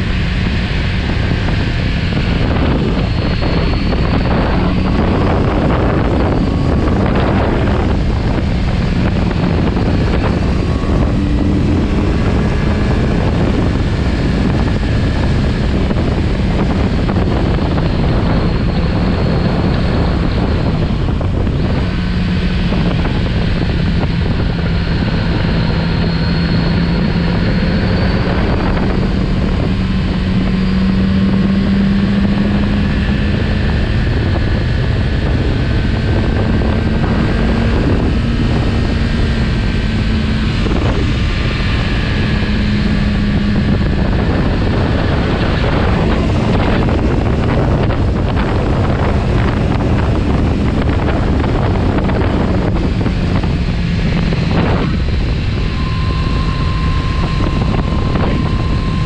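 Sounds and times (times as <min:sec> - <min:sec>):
motorcycle engine at road speed: 0:00.0 - 0:59.0
wind noise on microphone: 0:00.0 - 0:59.0.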